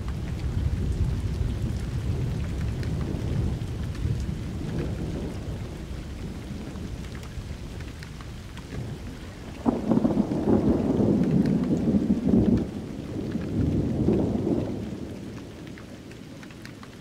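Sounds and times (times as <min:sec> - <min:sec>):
raindrops pattering: 0:00.0 - 0:17.0
rolling thunder rumble: 0:00.0 - 0:17.0
steady rain: 0:00.0 - 0:17.0.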